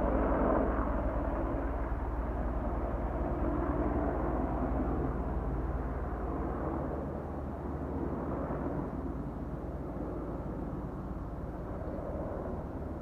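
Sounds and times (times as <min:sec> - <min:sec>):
helicopter rotor rumble: 0:00.0 - 0:13.0.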